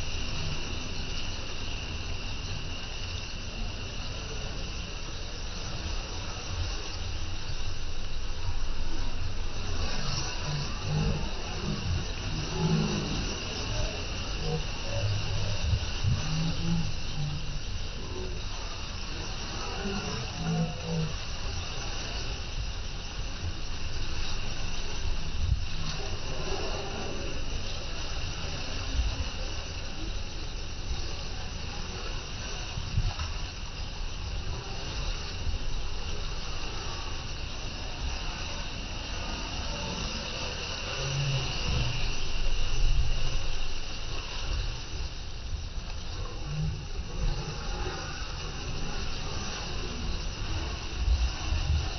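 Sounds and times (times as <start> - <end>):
wind buffeting microphone: 0.0 - 19.7, 21.1 - 51.9
low rumble: 0.0 - 51.9
water rushing past boat hull: 0.0 - 51.9.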